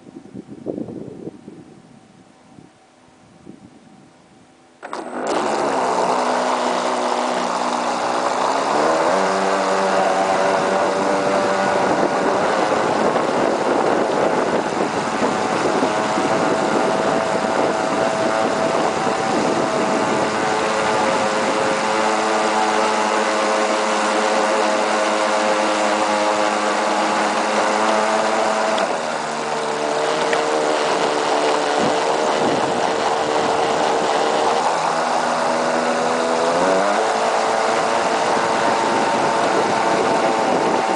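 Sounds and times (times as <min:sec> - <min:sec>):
electric boat motor running: 0:04.8 - 0:40.9
water spray: 0:05.1 - 0:40.9.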